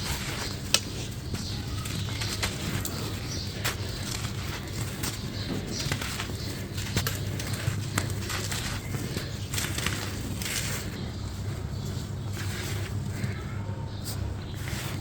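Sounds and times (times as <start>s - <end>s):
crumble blocks crunching: 0.0s - 15.0s.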